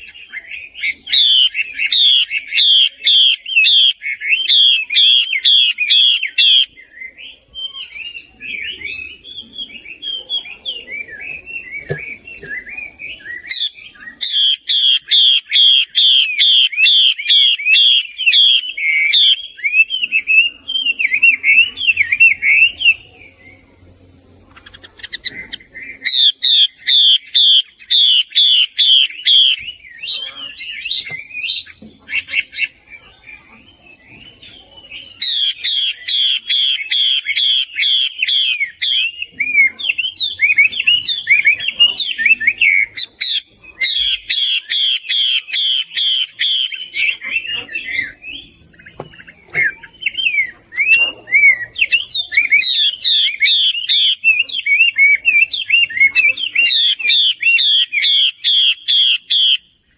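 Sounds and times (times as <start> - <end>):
bird singing whistled notes: 0.0 - 23.9, 24.6 - 59.9.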